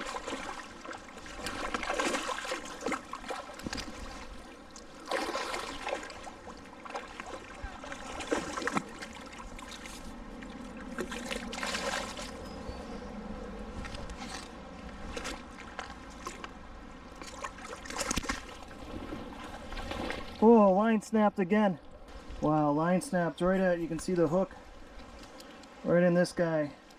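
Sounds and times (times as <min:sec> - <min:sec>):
river water running: 0:00.0 - 0:26.9.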